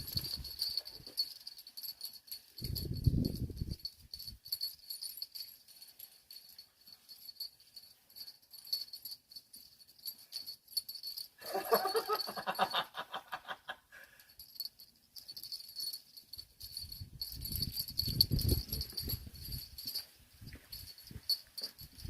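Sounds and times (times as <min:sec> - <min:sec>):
dog collar tags jingling: 0:00.0 - 0:12.8, 0:14.1 - 0:22.0.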